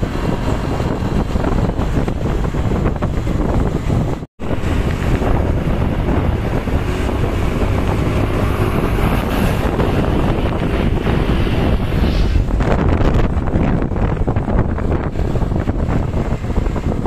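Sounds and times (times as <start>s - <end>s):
road and engine rumble: 0.0s - 17.0s
wind noise on microphone: 0.0s - 17.0s.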